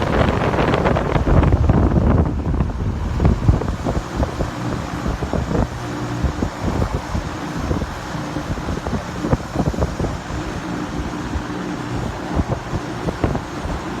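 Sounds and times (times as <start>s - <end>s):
exhaust fan running: 0.0s - 14.0s
wind buffeting microphone: 0.0s - 14.0s.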